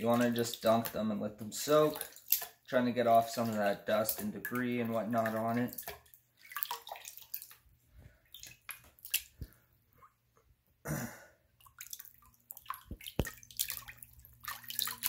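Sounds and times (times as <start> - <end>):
water splashing in a bowl: 0.0 - 9.6, 11.6 - 15.0.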